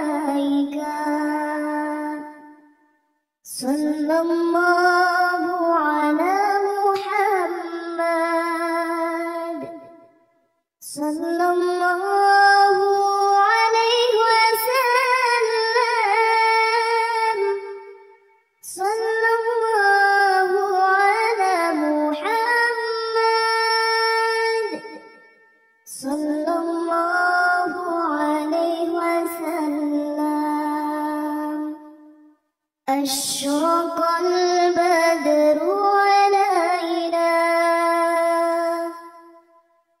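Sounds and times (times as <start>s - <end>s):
child singing unaccompanied: 0.0s - 2.5s, 3.5s - 9.8s, 10.8s - 17.7s, 18.6s - 25.0s, 25.9s - 31.8s, 32.9s - 39.0s.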